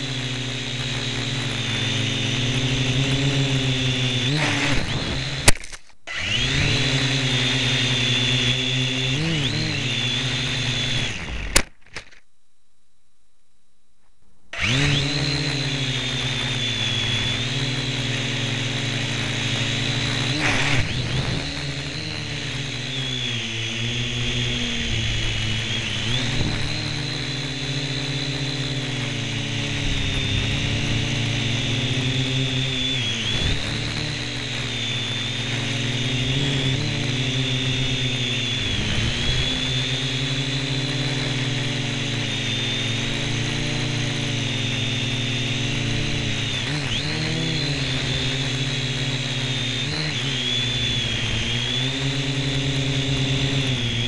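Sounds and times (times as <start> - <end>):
toy drone motors whining: 0.0 - 12.2, 14.5 - 54.0.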